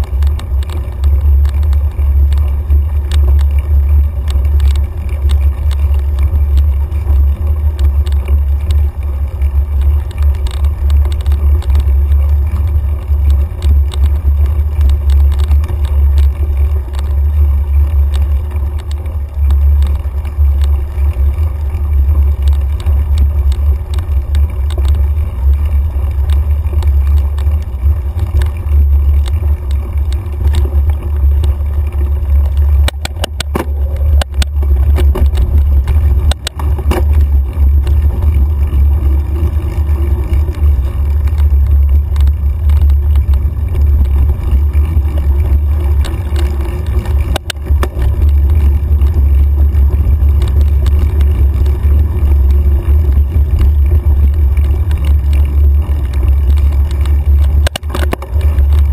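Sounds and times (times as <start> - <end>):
bike clicks and knocks: 0.0 - 58.9
wind and trail vibration rumble: 0.0 - 58.9.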